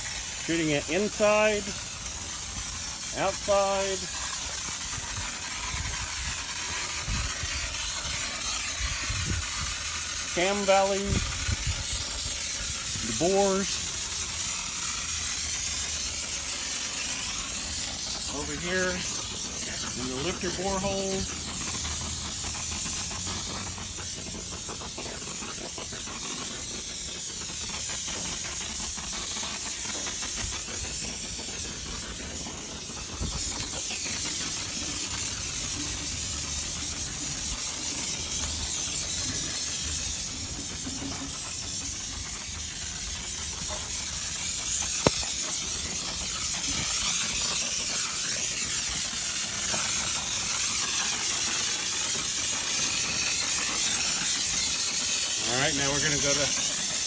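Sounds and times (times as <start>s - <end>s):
spray wand hissing: 0.0s - 57.0s.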